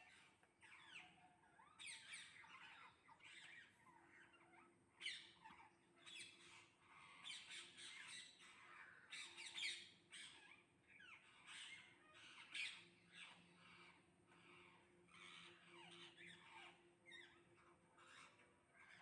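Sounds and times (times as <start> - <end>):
parrots squawking: 0.0 - 19.0.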